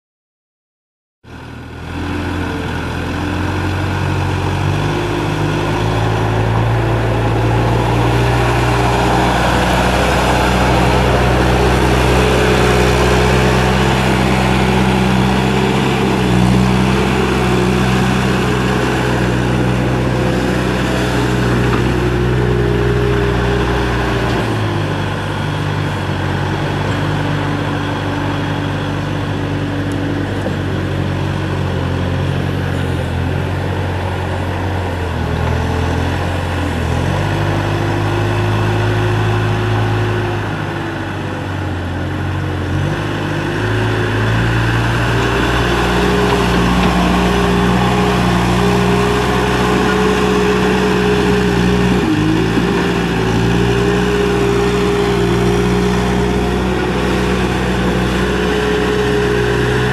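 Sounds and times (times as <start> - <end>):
diesel engine under throttle: 1.3 - 59.9.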